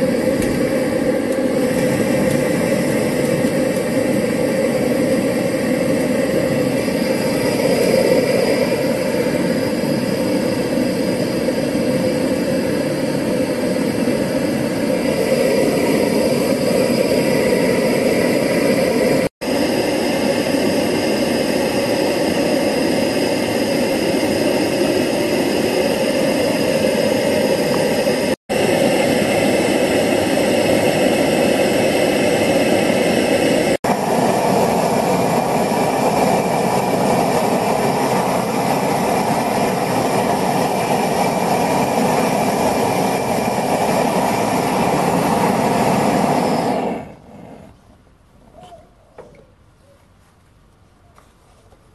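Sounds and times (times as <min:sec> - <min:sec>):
torch flame roaring: 0:00.0 - 0:47.8.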